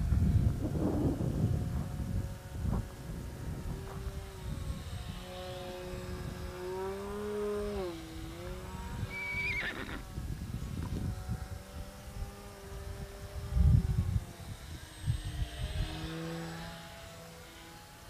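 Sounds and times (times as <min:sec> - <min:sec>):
model plane motor whining: 0:00.0 - 0:18.0
wind rumble on microphone: 0:00.0 - 0:18.0.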